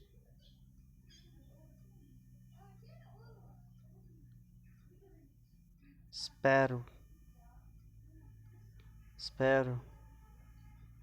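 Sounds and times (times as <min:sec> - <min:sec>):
faint voices: 0:00.0 - 0:11.0
steady low hum: 0:00.0 - 0:11.0.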